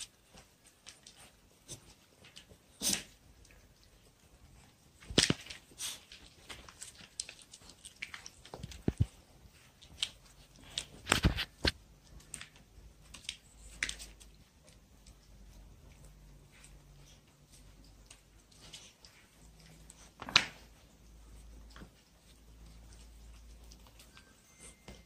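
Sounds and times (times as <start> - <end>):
puppy chewing pork skin: 0.0 - 24.4.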